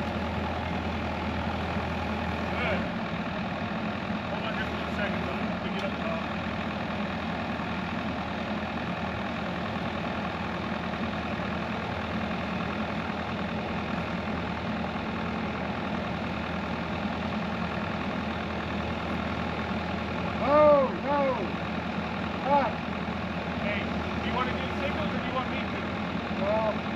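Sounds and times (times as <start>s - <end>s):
machine engine idling: 0.0s - 26.9s.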